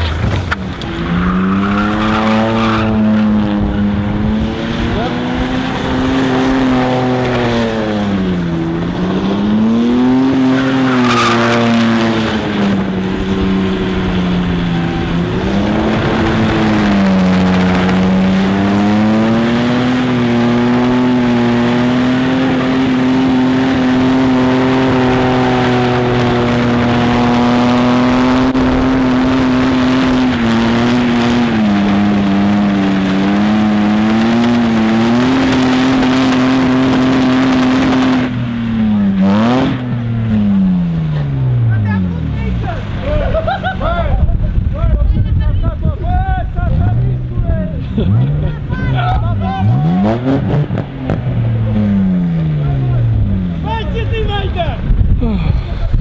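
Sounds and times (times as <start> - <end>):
car engine at high revs: 0.0 - 45.1, 45.7 - 56.0.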